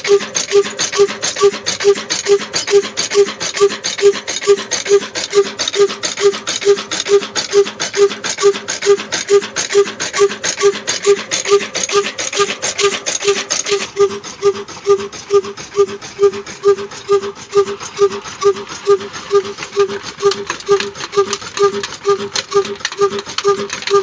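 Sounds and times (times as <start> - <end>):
slow diesel engine exhaust beat: 0.0 - 24.0.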